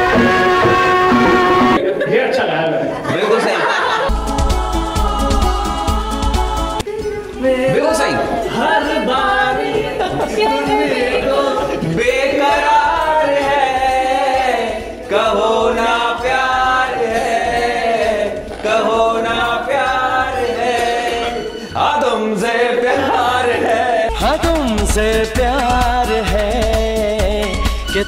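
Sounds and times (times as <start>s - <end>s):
person singing unaccompanied: 0.0s - 1.8s, 4.1s - 28.0s.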